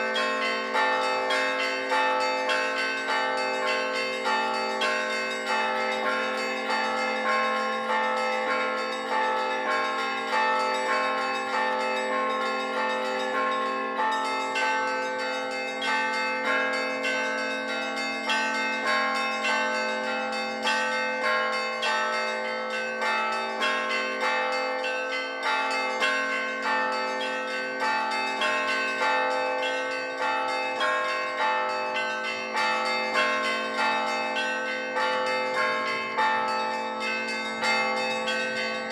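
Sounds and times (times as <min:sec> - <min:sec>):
church bells ringing a peal: 0:00.0 - 0:38.9
large bell humming: 0:00.0 - 0:38.9.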